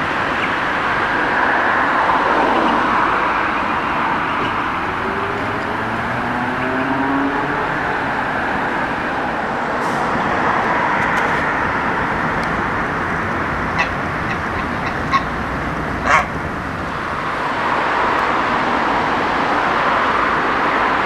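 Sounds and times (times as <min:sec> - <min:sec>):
city road traffic hum: 0:00.0 - 0:21.0.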